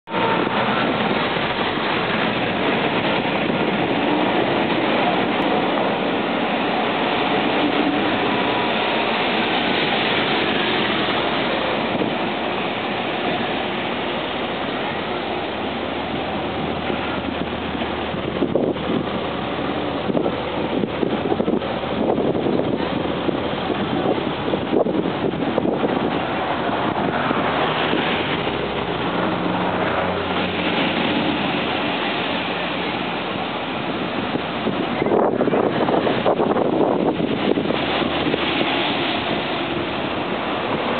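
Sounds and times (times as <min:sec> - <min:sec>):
engine and tyre noise: 0:00.0 - 0:40.9
cars driving past: 0:00.1 - 0:40.9.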